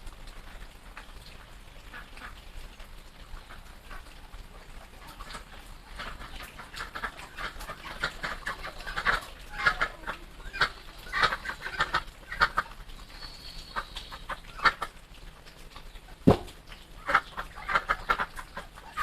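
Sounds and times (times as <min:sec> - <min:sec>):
chickens clucking: 0:03.3 - 0:19.0.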